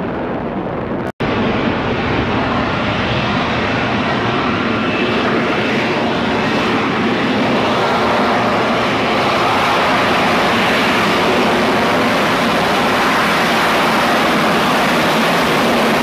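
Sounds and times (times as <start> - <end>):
loud jet roar: 0.0 - 16.0.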